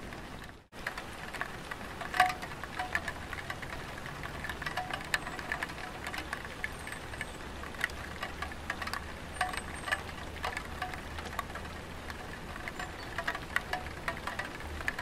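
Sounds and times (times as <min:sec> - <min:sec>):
raindrops tapping on tiled roof: 0:00.0 - 0:15.0
steady rain hiss: 0:00.0 - 0:15.0.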